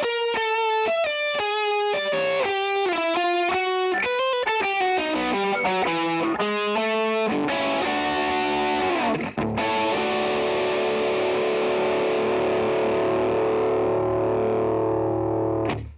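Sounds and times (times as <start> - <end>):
overdriven electric guitar chords: 0.0 - 15.9.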